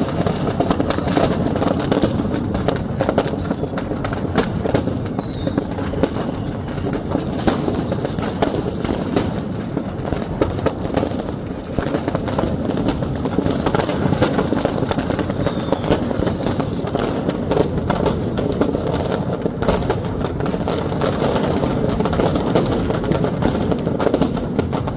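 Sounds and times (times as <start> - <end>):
firecrackers crackling: 0.0 - 24.9.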